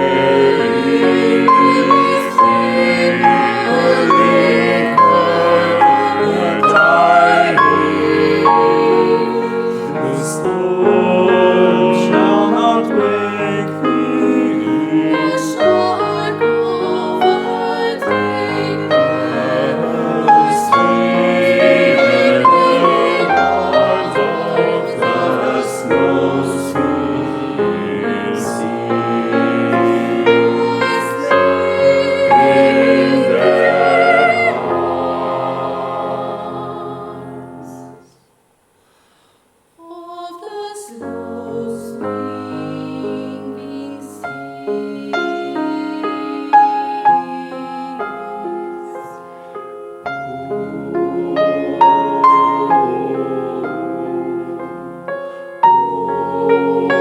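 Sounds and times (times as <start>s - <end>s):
vocal ensemble singing in harmony: 0.0s - 38.4s, 39.7s - 57.0s.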